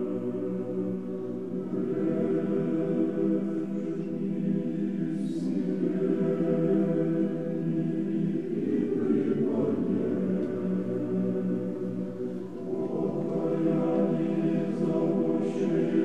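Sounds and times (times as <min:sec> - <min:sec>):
monastic choir singing chant: 0:00.0 - 0:16.0.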